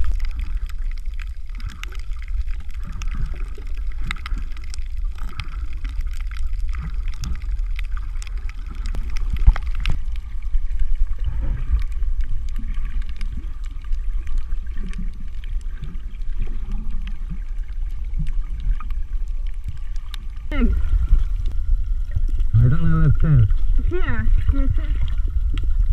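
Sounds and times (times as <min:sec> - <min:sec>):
bubbles gurgling: 0:00.0 - 0:25.9
low underwater rumble: 0:00.0 - 0:25.9
sharp clicks and crackles: 0:00.0 - 0:25.9.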